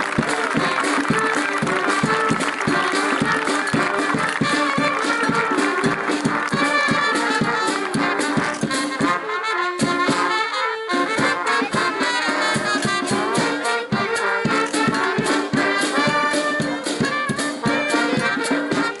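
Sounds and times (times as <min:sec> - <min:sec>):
drum beat: 0:00.0 - 0:10.4, 0:11.0 - 0:19.0
brass band playing: 0:00.0 - 0:19.0.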